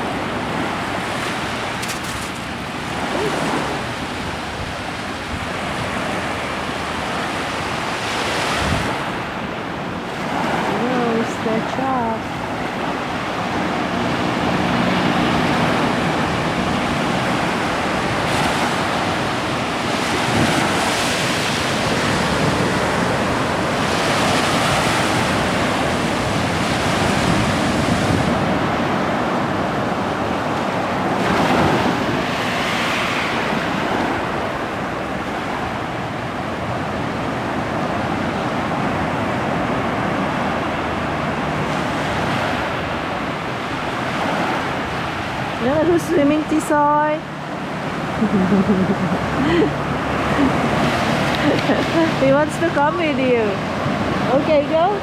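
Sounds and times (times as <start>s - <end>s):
ocean surf breaking on shore: 0.0s - 55.0s
wind buffeting microphone: 0.0s - 55.0s.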